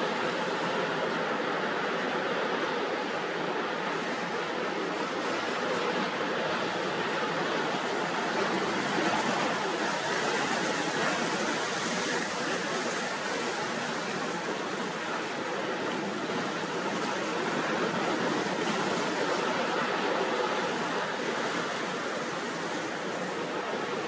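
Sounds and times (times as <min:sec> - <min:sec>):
gale-force wind: 0:00.0 - 0:24.0
heavy surf against a pier: 0:00.0 - 0:24.0.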